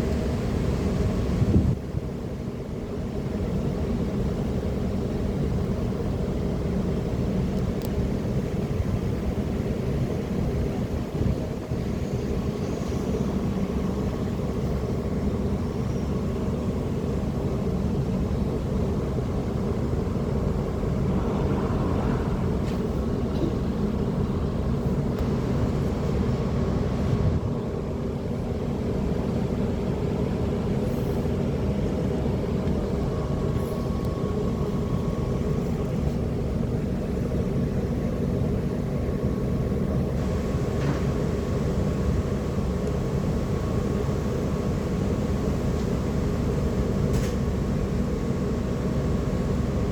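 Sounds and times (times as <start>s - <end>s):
ship machinery drone: 0.0s - 49.9s.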